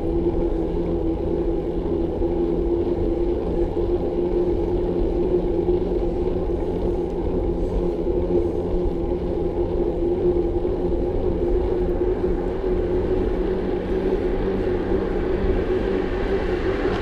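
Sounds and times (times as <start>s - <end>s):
bicycle riding on road: 0.0s - 17.0s.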